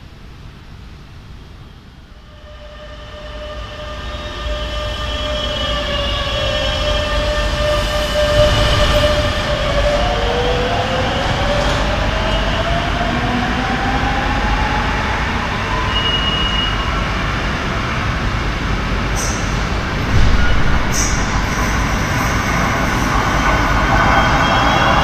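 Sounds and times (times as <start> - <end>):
rail rumble: 2.2 - 15.6, 16.9 - 25.0.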